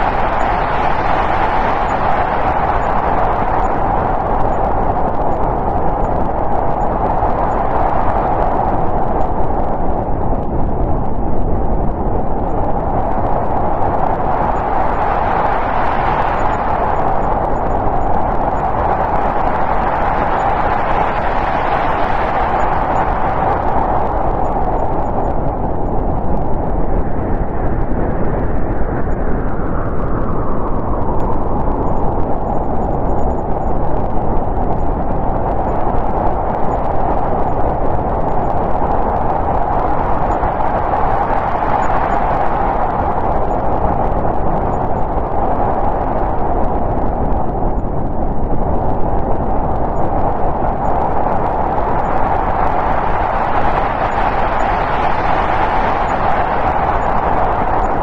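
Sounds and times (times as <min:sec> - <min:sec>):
howling snowstorm wind: 0:00.0 - 0:58.0.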